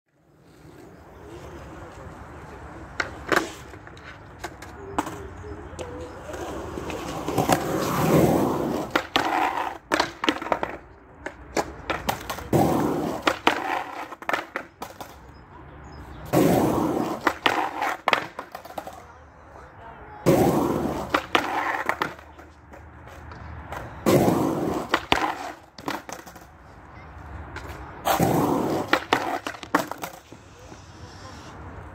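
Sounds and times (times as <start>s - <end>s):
skateboard wheels rolling on concrete: 0.1s - 31.9s
skateboard clacks and knocks: 2.9s - 15.4s, 16.3s - 19.2s, 20.2s - 30.5s.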